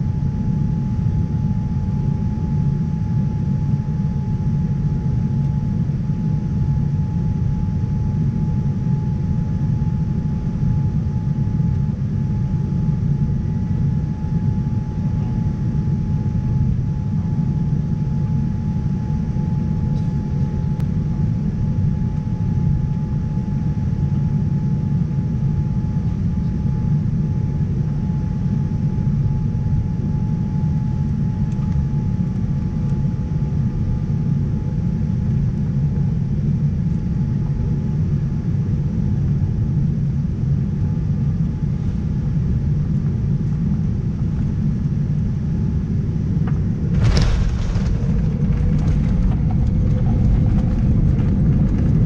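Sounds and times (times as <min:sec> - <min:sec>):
airliner cabin engine rumble: 0:00.0 - 0:52.0.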